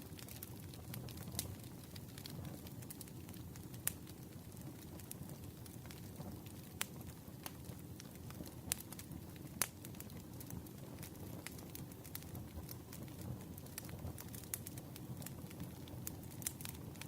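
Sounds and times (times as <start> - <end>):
campfire flames rumbling: 0.0 - 17.0
fire crackles and pops: 0.0 - 17.0.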